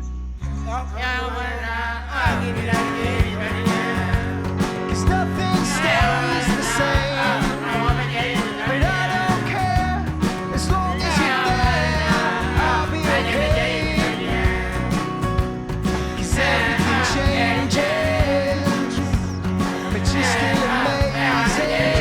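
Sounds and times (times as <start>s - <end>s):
song with vocals and band: 0.5s - 22.0s.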